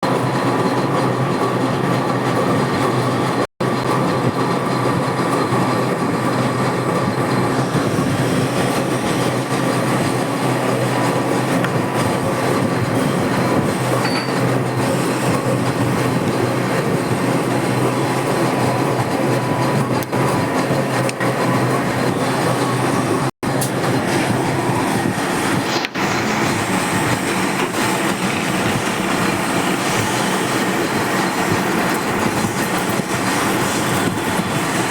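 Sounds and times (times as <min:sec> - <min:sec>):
metal lathe running: 0:00.0 - 0:34.9.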